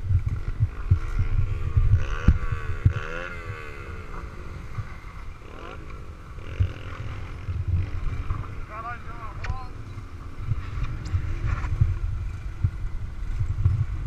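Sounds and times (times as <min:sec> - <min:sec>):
motorcycle engine revving: 0:00.0 - 0:14.0
wind buffeting microphone: 0:00.0 - 0:14.0.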